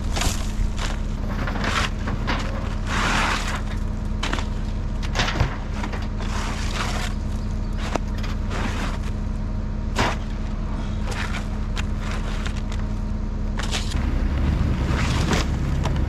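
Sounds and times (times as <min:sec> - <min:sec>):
debris crashing and scraping: 0:00.0 - 0:16.0
truck engine drone: 0:00.0 - 0:16.0.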